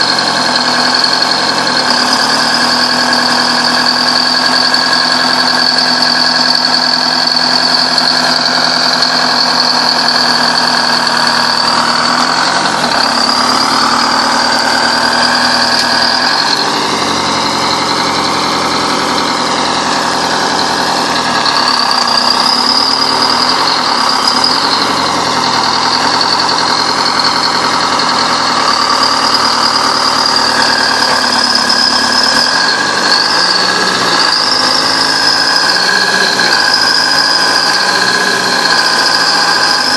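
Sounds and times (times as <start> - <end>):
bulldozer engine running: 0.0 - 39.9
high-pitched whine: 0.0 - 39.9.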